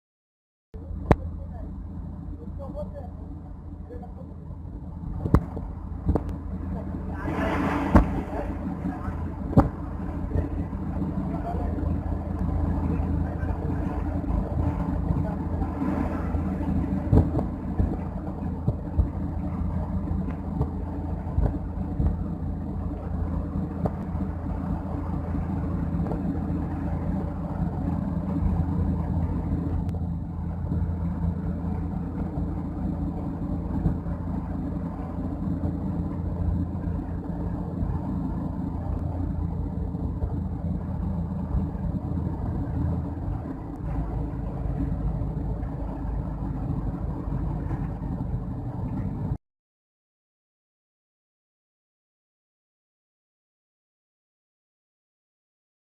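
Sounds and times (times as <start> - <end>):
vehicle engine drone: 0.7 - 49.4
road noise: 0.8 - 49.4.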